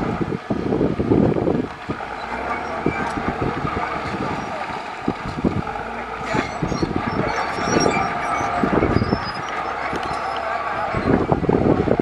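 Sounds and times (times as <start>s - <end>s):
heavy machinery engine: 0.0s - 12.0s
wind on microphone: 0.0s - 12.0s.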